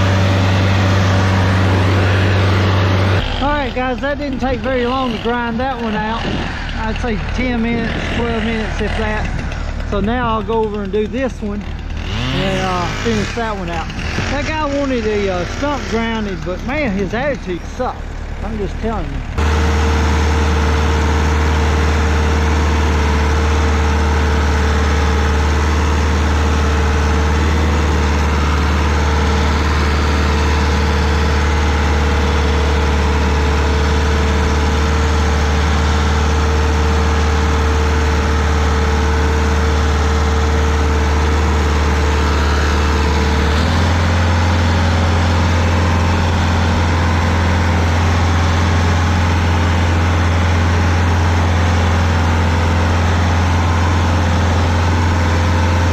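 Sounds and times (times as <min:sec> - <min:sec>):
cutter wheel grinding stump: 0:00.0 - 0:55.9
stump grinder engine running: 0:00.0 - 0:55.9.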